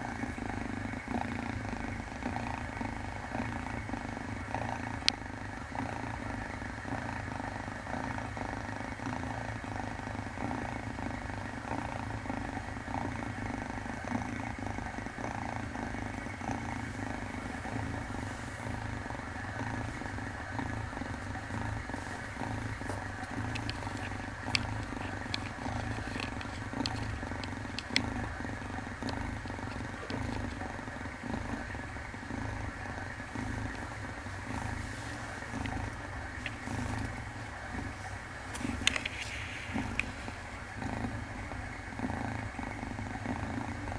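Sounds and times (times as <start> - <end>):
kitten purring: 0.0 - 43.9.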